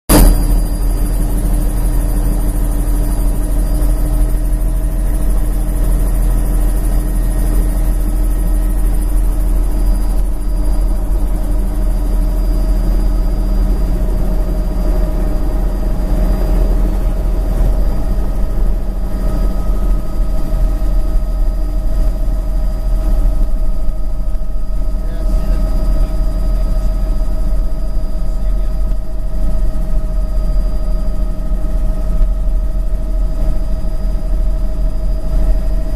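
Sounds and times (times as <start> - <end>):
helicopter engine and rotors: 0.1 - 35.9.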